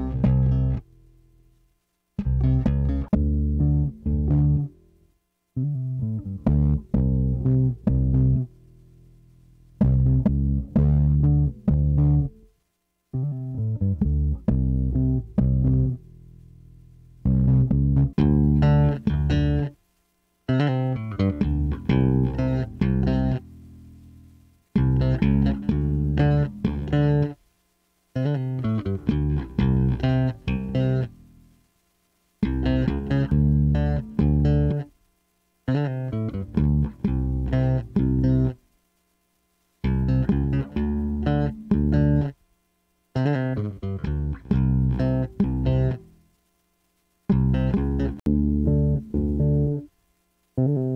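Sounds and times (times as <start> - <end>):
electric bass plucked notes: 0.0 - 1.6, 2.2 - 12.5, 13.1 - 19.8, 20.5 - 27.4, 28.2 - 31.6, 32.4 - 34.9, 35.7 - 38.6, 39.8 - 42.4, 43.1 - 46.3, 47.3 - 49.9, 50.6 - 50.9.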